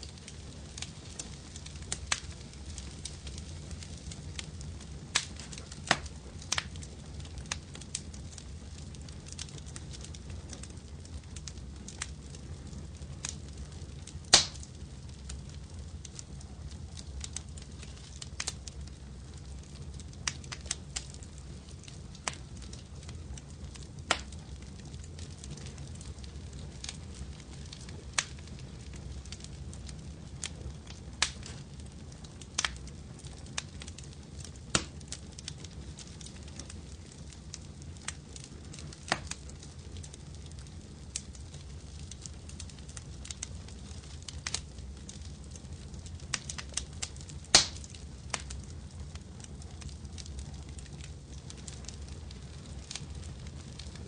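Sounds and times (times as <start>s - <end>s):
fire pops and snaps: 0.0s - 54.0s
low rumble of flames: 0.0s - 54.0s.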